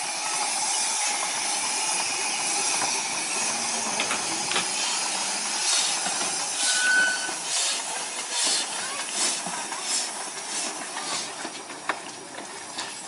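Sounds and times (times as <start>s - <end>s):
steam hissing: 0.0s - 11.8s
steam locomotive exhaust chuffs: 0.0s - 13.0s.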